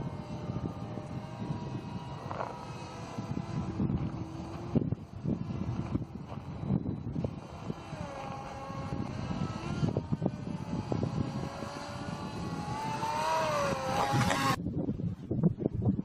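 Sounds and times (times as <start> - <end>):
electric motor and propeller whining: 0.0 - 14.6
wind rumble on microphone: 0.0 - 16.0.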